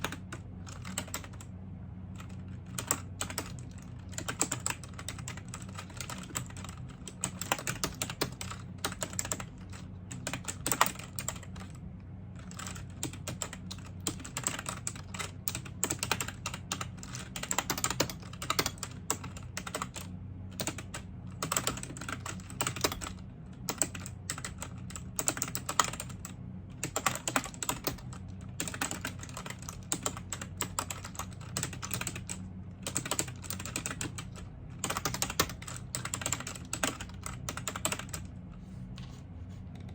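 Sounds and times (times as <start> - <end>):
keyboard typing: 0.0 - 1.5, 2.2 - 11.8, 12.4 - 38.3.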